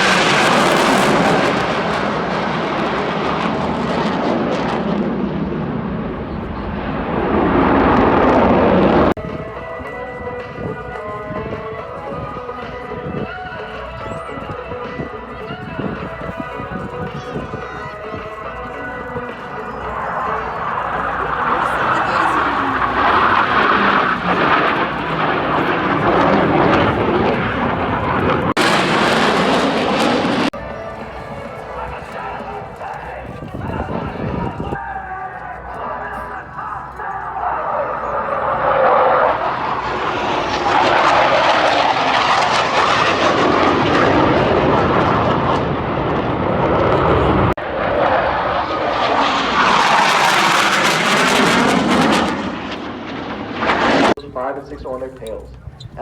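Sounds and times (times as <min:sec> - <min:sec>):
jet engines roaring past: 0:00.0 - 0:56.0.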